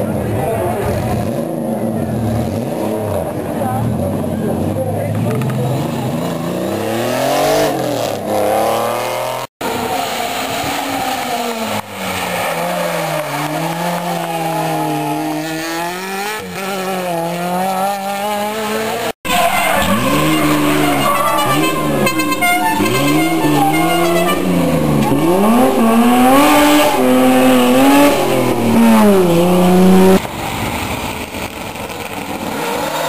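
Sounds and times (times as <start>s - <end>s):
rally car engines revving: 0.0s - 31.2s.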